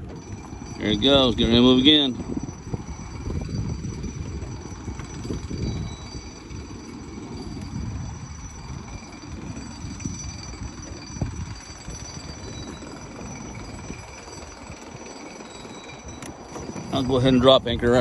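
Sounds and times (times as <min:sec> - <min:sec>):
high-pitched warning tone: 0:00.0 - 0:18.0.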